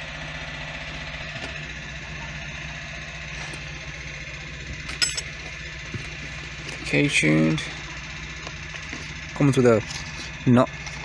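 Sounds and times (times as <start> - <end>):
machinery engine hum: 0.0 - 11.0.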